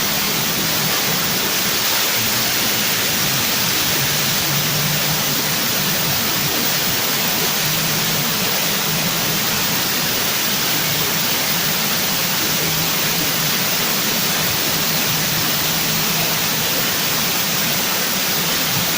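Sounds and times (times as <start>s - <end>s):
steady loud hiss: 0.0s - 18.9s.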